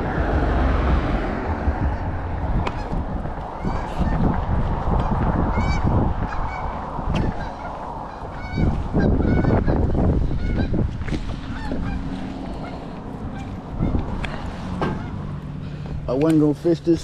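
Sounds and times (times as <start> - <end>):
geese honking: 0.0 - 4.3, 5.0 - 15.8
steady low rumble: 0.0 - 16.1.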